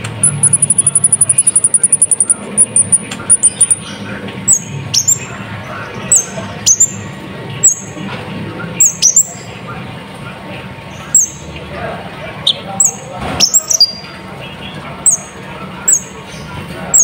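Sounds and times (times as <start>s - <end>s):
high-pitched bird song: 0.0s - 8.0s, 8.8s - 9.6s, 10.9s - 11.6s, 12.4s - 17.0s.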